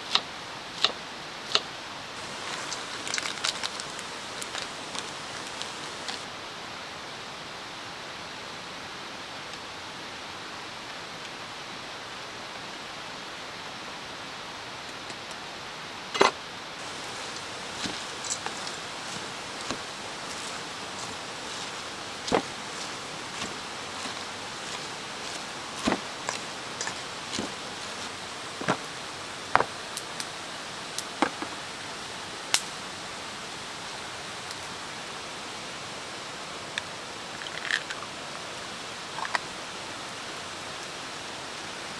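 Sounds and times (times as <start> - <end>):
background hiss: 0.0 - 41.9.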